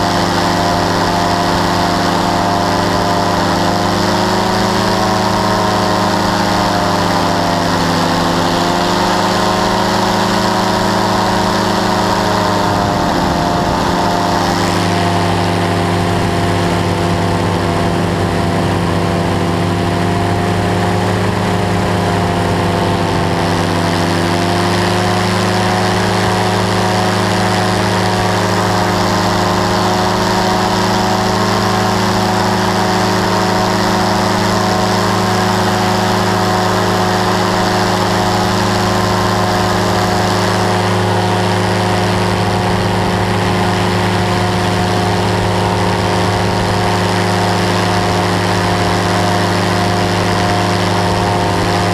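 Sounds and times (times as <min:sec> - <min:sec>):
engine and propeller running: 0:00.0 - 0:51.9.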